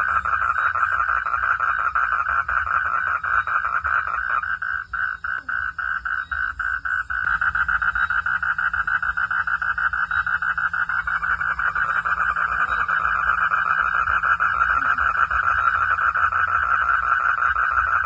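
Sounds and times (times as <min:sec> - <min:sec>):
frogs calling in chorus: 0:00.0 - 0:18.0.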